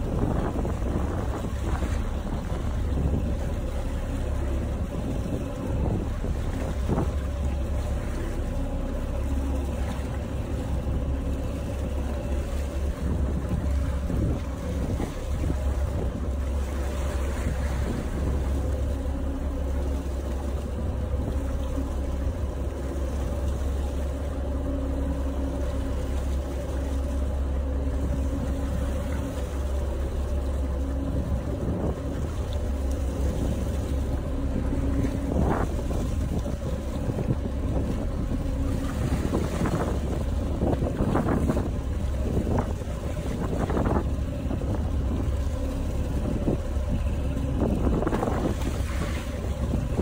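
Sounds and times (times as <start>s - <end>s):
motorboat engine hum: 0.0s - 50.0s
water rushing past hull: 0.0s - 50.0s
wind on microphone: 0.0s - 50.0s.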